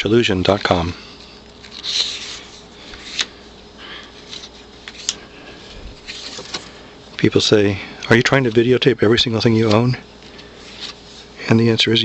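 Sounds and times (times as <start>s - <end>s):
rustling and sliding of cards: 0.4s - 6.8s, 8.1s - 11.4s.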